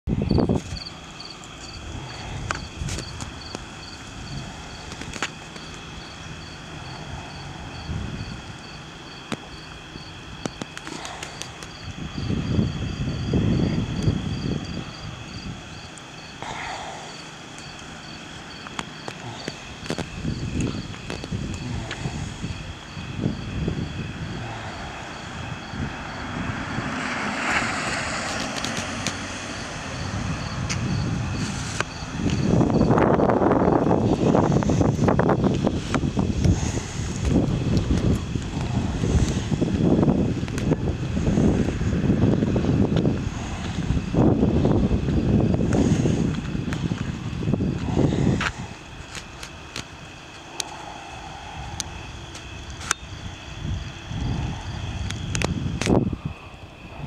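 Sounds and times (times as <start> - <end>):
low rumble: 0.0 - 10.5, 11.1 - 57.0
wind on microphone: 0.0 - 57.0
crickets chirping: 0.1 - 57.0.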